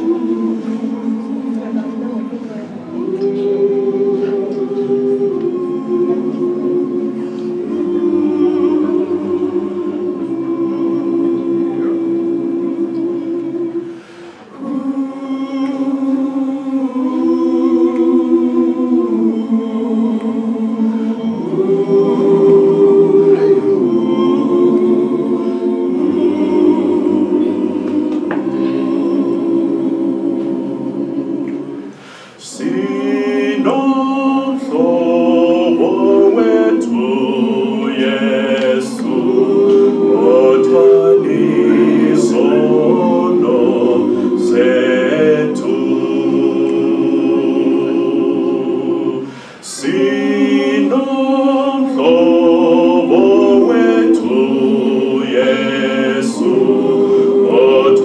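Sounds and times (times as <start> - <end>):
male choir singing in harmony: 0.0 - 58.0.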